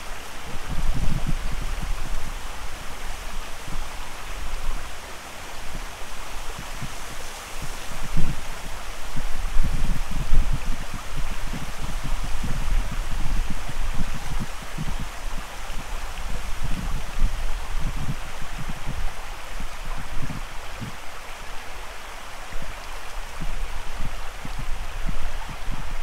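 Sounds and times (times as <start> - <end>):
creek flowing over rocks: 0.0 - 26.0
wind buffeting microphone: 0.2 - 21.1, 22.5 - 26.0.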